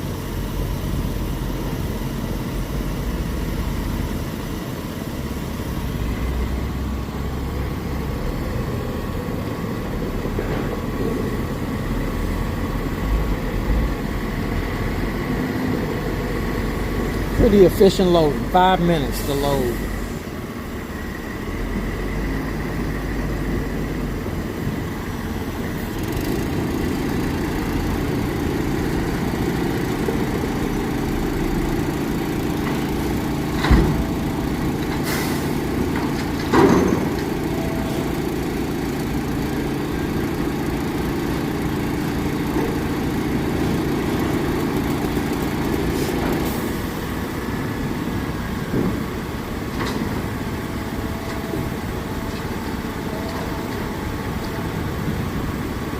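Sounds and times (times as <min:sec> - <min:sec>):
heavy diesel engines running: 0:00.0 - 0:55.9.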